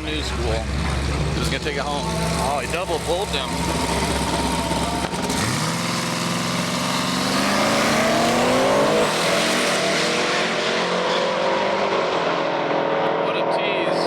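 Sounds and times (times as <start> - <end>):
drag cars accelerating: 0.0 - 14.0.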